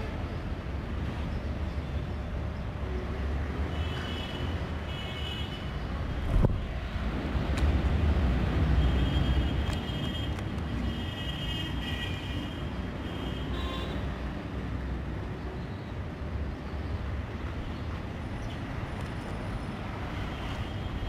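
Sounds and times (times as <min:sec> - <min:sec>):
distant city traffic: 0:00.0 - 0:21.0.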